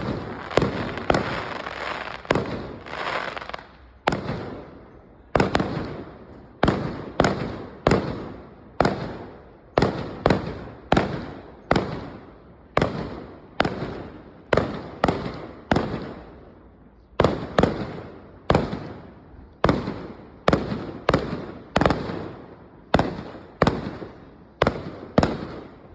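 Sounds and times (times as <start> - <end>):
fireworks bangs with echo: 0.0 - 25.9.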